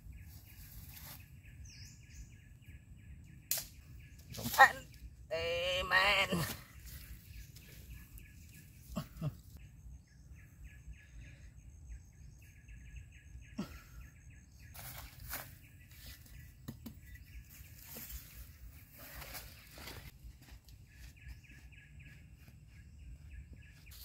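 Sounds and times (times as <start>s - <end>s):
bird chirping: 0.0s - 5.9s, 6.6s - 19.3s, 20.7s - 24.0s.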